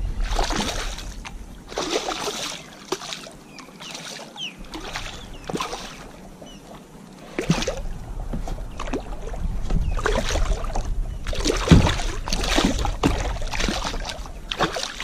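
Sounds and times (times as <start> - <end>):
water splashing against kayak: 0.0 - 15.0.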